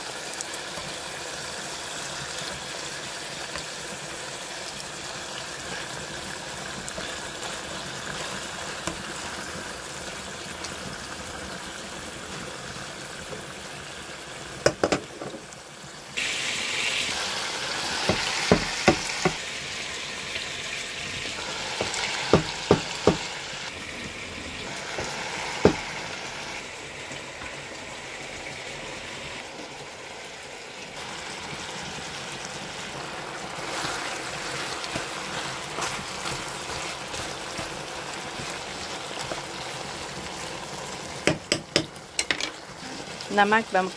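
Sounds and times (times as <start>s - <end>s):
chicken sizzling in a frying pan: 0.0s - 43.9s.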